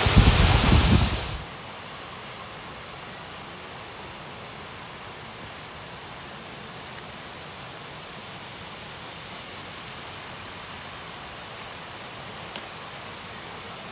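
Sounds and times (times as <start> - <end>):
waterfalls rushing: 0.0 - 13.9.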